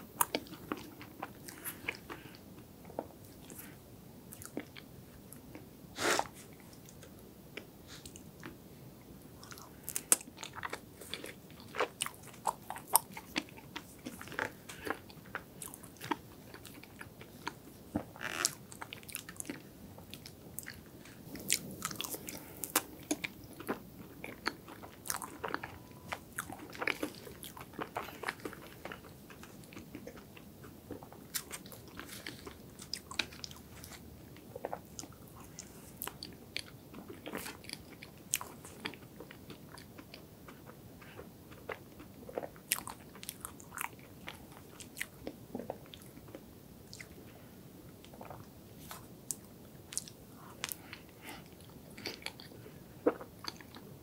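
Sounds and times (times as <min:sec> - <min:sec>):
chewing and crunching: 0:00.1 - 0:05.7, 0:09.4 - 0:47.4, 0:48.0 - 0:54.0.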